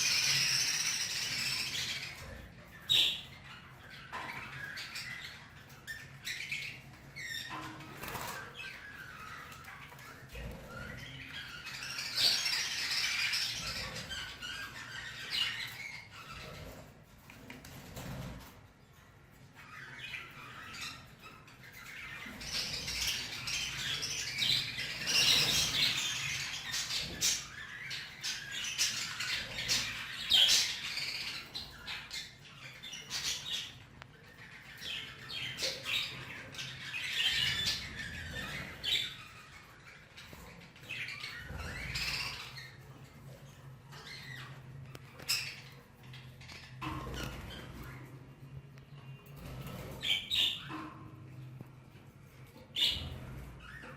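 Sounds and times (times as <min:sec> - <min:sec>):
budgerigars squawking and chirping: 0:00.0 - 0:18.5, 0:19.4 - 0:51.4, 0:52.0 - 0:53.9.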